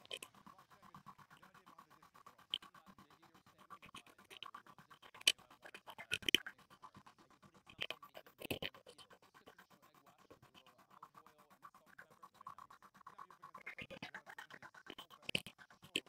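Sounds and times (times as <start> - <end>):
printer motors humming and ticking: 0.0 - 16.0.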